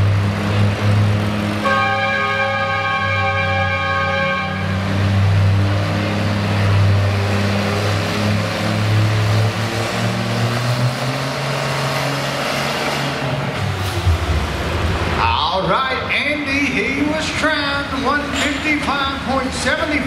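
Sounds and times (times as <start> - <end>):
tractor engine running at low revs: 0.0 - 20.0.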